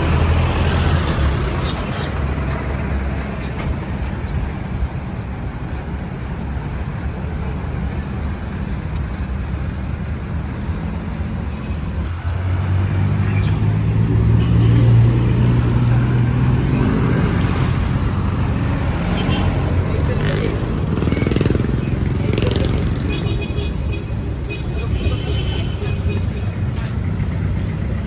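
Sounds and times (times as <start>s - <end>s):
vehicle engines running: 0.0s - 28.0s.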